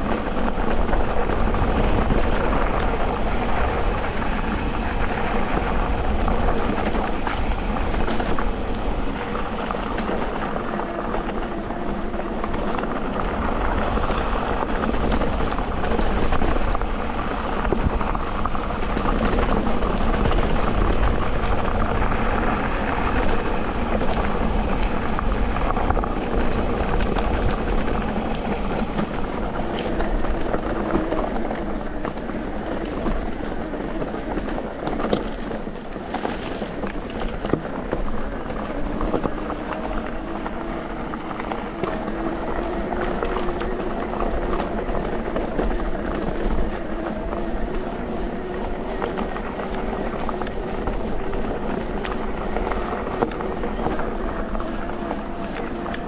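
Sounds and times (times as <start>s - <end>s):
bike tyres rumbling on dirt: 0.0s - 56.0s.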